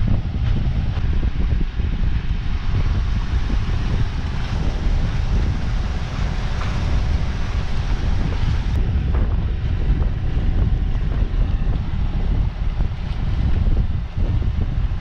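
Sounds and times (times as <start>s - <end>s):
hiss of wind and waves: 0.0s - 15.0s
wind buffeting microphone: 0.0s - 15.0s.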